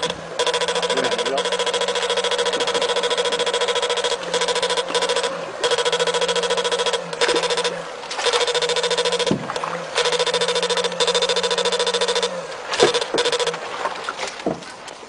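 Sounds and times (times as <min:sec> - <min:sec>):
electrofishing machine buzzing: 0:00.0 - 0:14.9.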